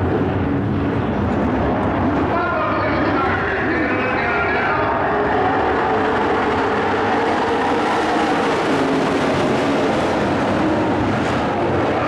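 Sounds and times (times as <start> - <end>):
racing truck engines droning: 0.0 - 12.0.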